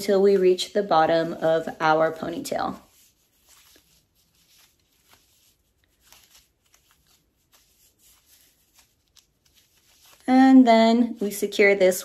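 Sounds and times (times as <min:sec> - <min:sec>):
hands braiding hair: 0:00.0 - 0:12.0.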